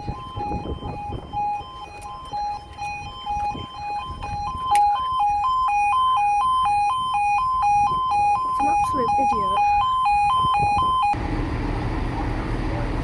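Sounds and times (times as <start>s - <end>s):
two-tone warning alarm: 0.0s - 11.2s.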